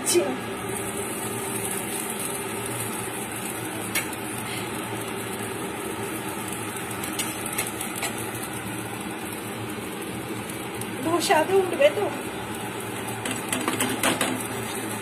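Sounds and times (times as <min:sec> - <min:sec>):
batter sizzling in a pan: 0:00.0 - 0:15.0.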